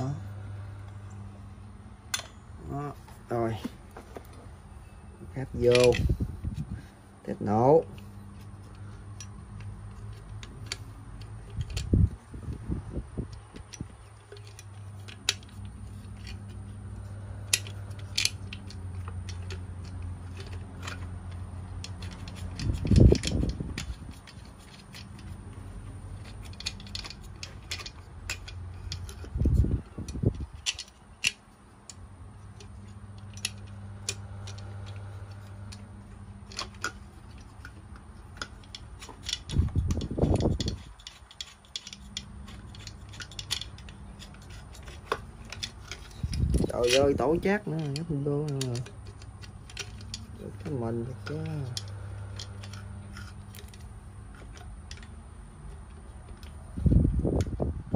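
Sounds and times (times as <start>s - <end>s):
low steady hum: 0.0s - 57.9s
parts clicking and rattling: 0.0s - 57.9s.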